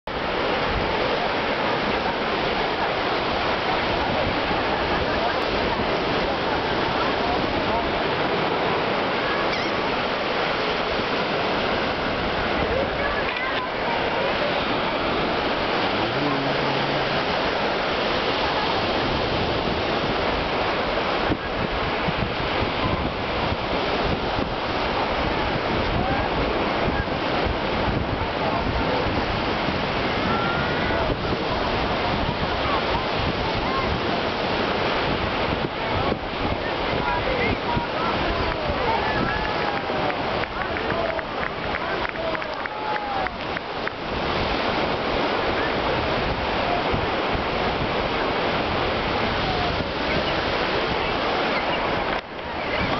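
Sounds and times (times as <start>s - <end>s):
small waves breaking on beach: 0.1s - 52.9s
wind buffeting microphone: 0.1s - 52.9s.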